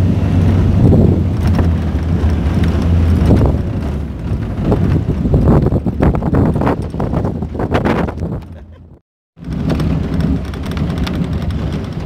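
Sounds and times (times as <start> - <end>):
tyre noise on dirt track: 0.0 - 12.0
vehicle engine running: 0.0 - 12.0.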